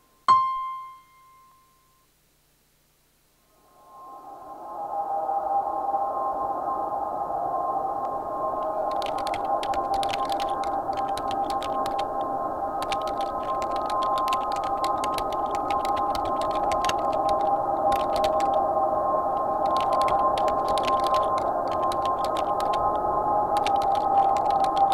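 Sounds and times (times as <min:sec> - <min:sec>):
drone of held tones: 0:03.5 - 0:24.9.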